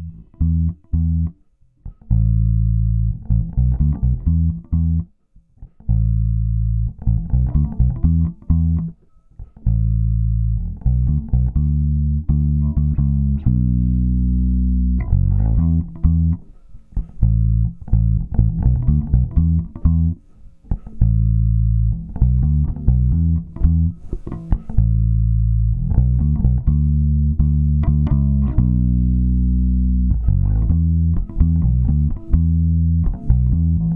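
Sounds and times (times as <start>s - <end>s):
electric bass guitar: 0.0s - 33.9s.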